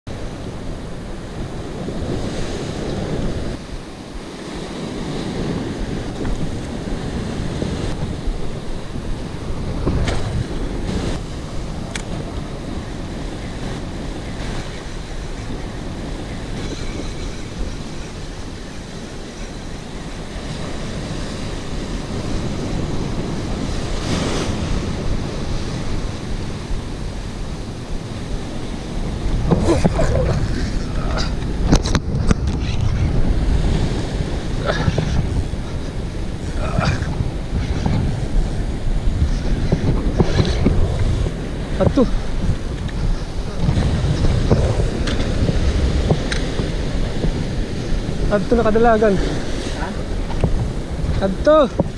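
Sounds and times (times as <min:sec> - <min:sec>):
wind buffeting microphone: 0:00.1 - 0:51.9
surf breaking on rocks: 0:01.6 - 0:51.9.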